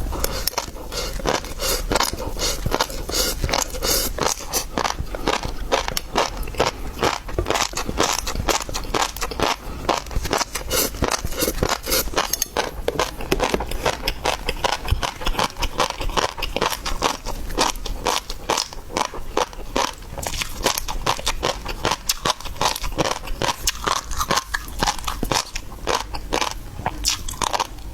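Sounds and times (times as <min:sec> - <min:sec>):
person crunching and chewing seafood: 0:00.0 - 0:27.9.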